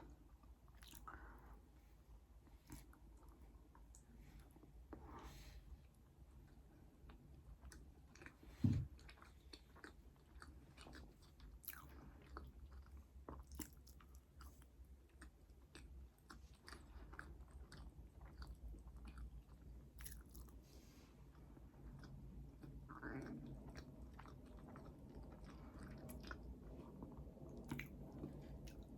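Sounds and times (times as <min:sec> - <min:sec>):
close chewing and crunching: 0:00.0 - 0:01.5, 0:06.3 - 0:28.9.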